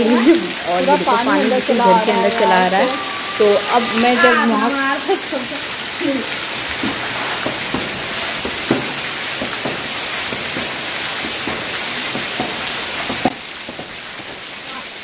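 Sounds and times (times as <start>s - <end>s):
floor wiper splashing water: 0.0s - 14.8s
heavy rain hissing: 0.0s - 15.0s.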